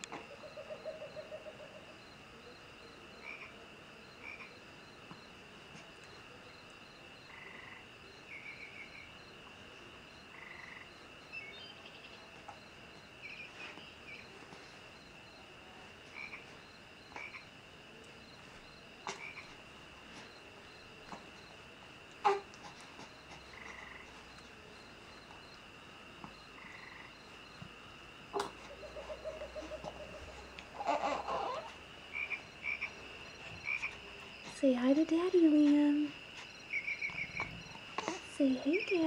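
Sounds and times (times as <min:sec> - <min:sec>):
cricket-like chirping: 0:00.0 - 0:39.0
frogs croaking: 0:00.0 - 0:39.0
high insect drone: 0:00.0 - 0:39.0.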